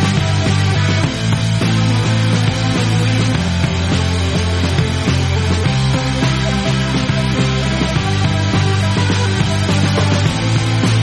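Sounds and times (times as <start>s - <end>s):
bass line: 0.0s - 11.0s
instrumental song music: 0.0s - 11.0s.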